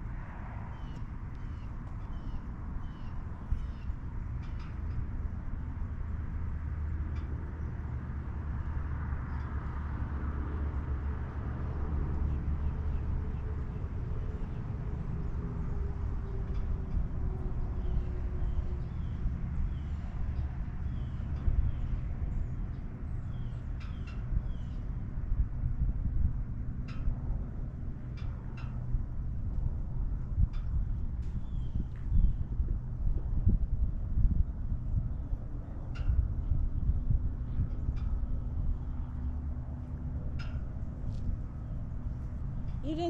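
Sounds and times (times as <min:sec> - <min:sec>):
engine low rumble: 0:00.0 - 0:43.0.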